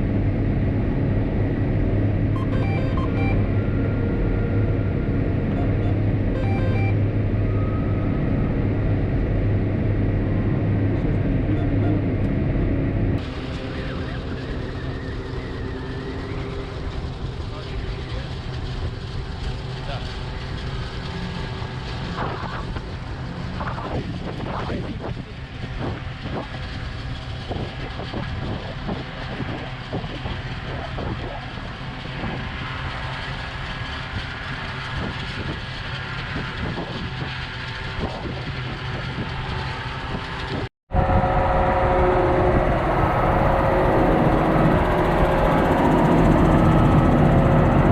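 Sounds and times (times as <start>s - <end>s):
louder engine running: 0.0s - 25.1s, 25.8s - 47.9s.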